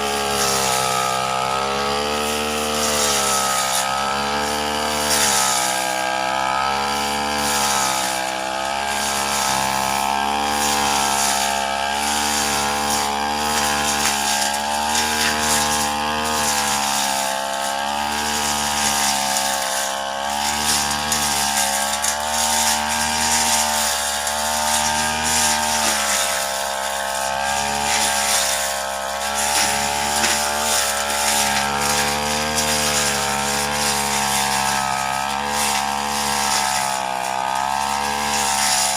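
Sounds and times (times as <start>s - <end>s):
blade cutting grass: 0.0s - 38.9s
brush cutter engine running: 0.0s - 38.9s.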